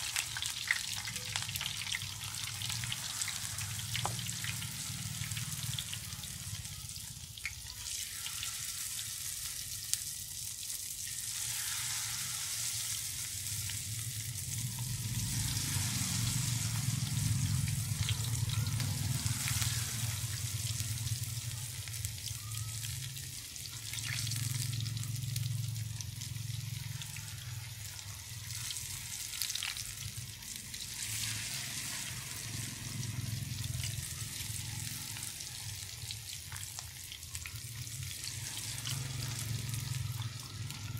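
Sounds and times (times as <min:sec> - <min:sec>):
oil sizzling and crackling: 0:00.0 - 0:40.9.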